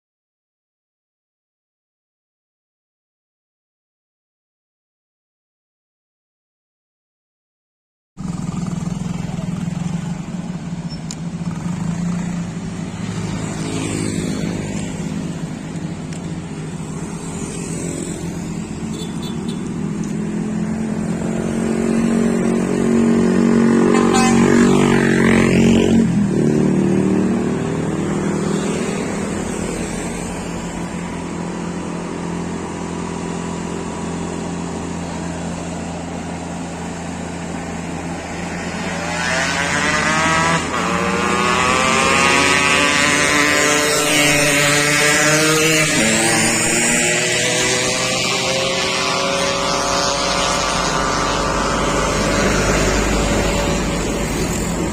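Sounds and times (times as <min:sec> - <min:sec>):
truck diesel engine under load: 0:08.2 - 0:54.9.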